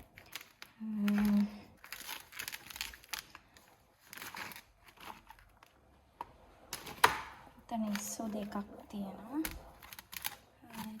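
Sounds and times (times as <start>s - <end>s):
plastic bags crinkling: 0.0s - 6.0s, 6.7s - 11.0s.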